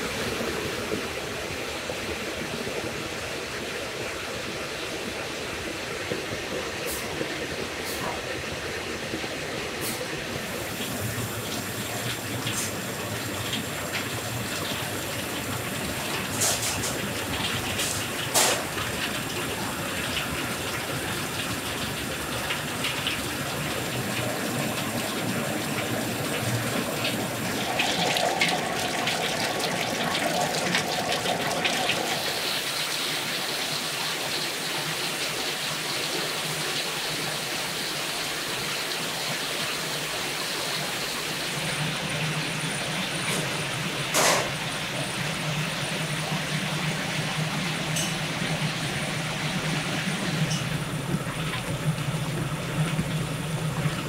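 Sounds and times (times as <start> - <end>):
grinder machinery and rushing water: 0.0 - 54.0.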